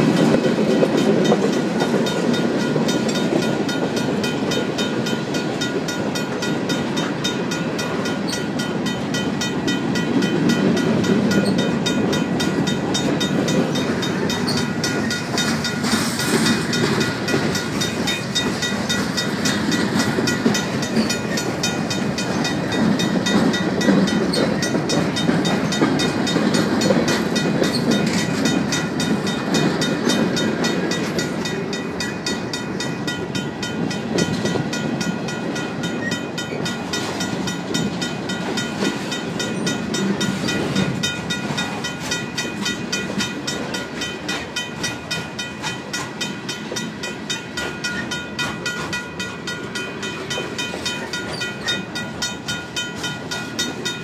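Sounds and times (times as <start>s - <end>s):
crossing bell ringing: 0.0s - 54.0s
freight train wheels clattering: 0.0s - 54.0s.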